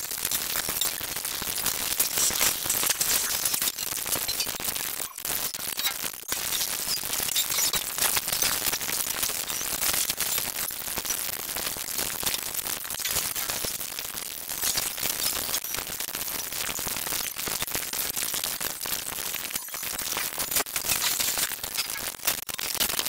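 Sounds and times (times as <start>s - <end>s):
dense crackling hiss: 0.0s - 23.0s.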